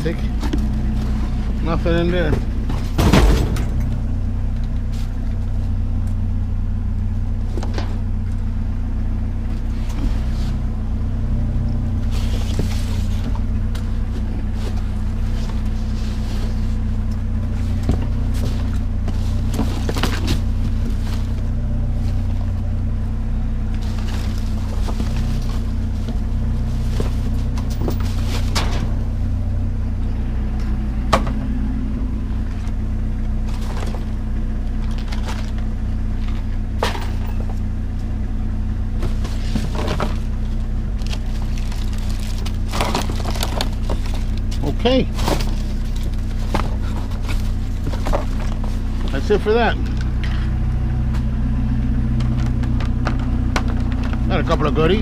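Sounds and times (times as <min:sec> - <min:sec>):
engine idling drone: 0:00.0 - 0:55.0.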